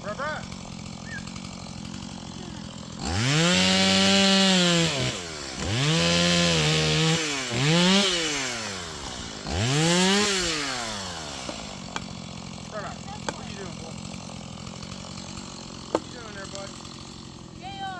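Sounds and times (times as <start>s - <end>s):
chainsaw revving: 0.0s - 17.9s.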